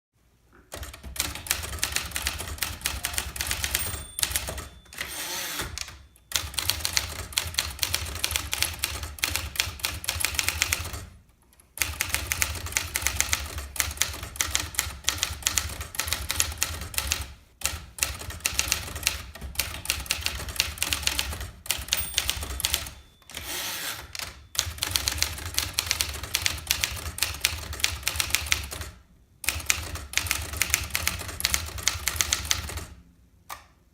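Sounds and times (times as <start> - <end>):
typewriter keystrokes clacking: 0.7 - 4.9, 5.7 - 11.2, 11.8 - 23.1, 24.1 - 33.0.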